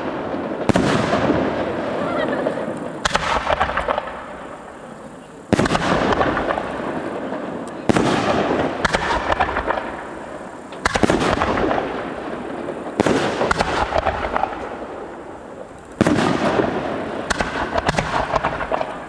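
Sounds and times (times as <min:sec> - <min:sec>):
crackling pops: 0:00.0 - 0:14.8, 0:15.4 - 0:19.0.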